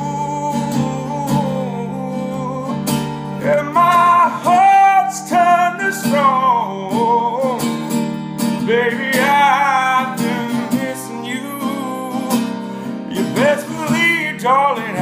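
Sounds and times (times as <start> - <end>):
man singing: 0.0 - 15.0
strummed acoustic guitar: 0.0 - 15.0.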